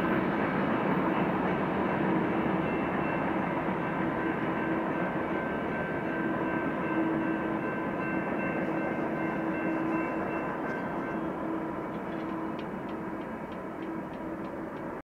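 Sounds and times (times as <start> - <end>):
rumble of train wheels on rail: 0.0 - 15.0.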